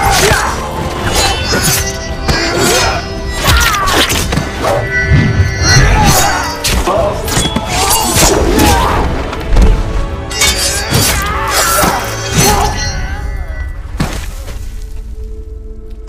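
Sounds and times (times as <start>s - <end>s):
dramatic film score: 0.0s - 16.0s.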